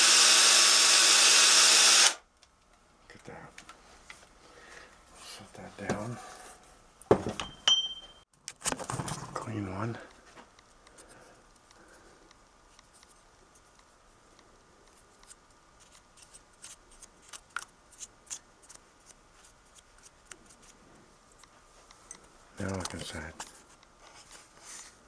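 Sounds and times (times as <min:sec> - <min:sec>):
faint steady hum: 0:02.2 - 0:25.0.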